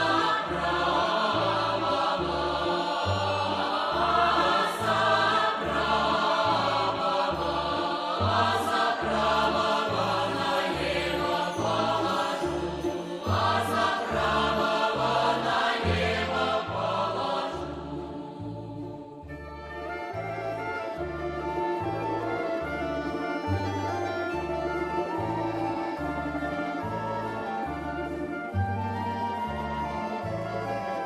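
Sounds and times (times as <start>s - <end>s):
choir singing: 0.0s - 31.0s.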